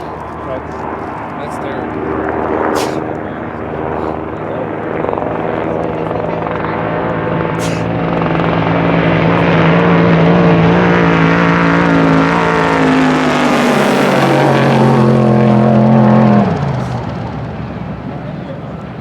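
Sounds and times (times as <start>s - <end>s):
truck engine at high revs: 0.0s - 19.0s.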